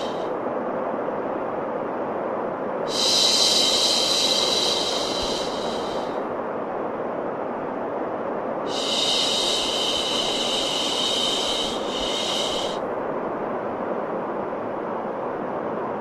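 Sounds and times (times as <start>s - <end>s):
white noise: 0.0s - 16.0s.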